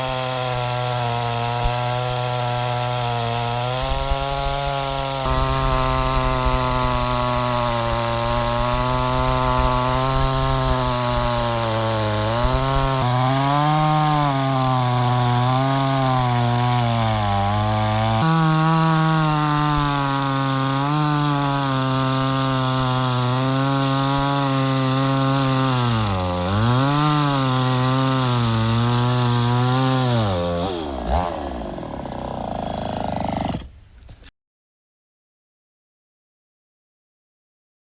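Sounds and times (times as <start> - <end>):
chainsaw ripping wood: 0.0 - 34.3.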